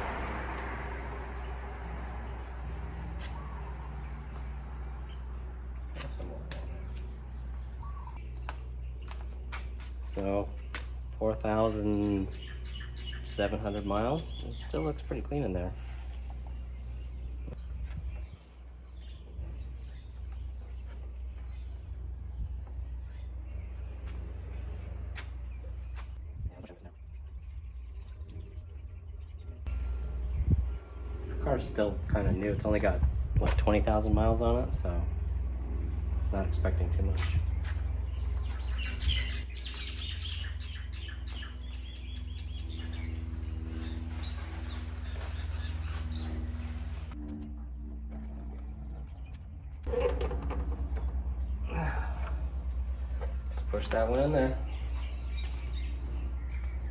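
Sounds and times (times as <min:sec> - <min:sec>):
birds chirping: 0:00.0 - 0:56.9
steady low rumble: 0:00.0 - 0:56.9
steady low hum: 0:00.9 - 0:56.9.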